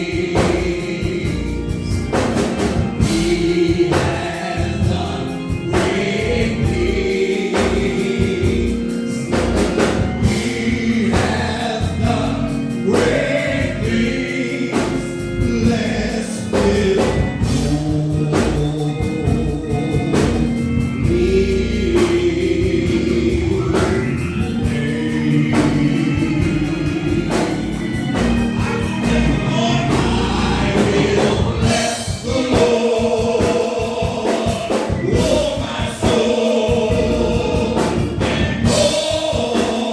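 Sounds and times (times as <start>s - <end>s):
bass and drums beat: 0.0s - 39.9s
gospel choir singing: 0.0s - 39.9s.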